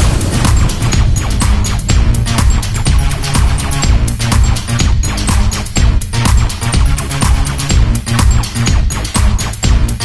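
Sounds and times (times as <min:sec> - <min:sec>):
electronic music with strong bass: 0:00.0 - 0:10.0.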